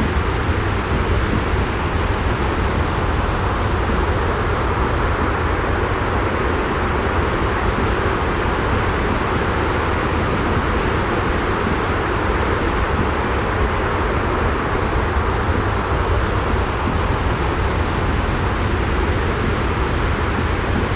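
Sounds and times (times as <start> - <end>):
white noise with low rumble: 0.0 - 20.9.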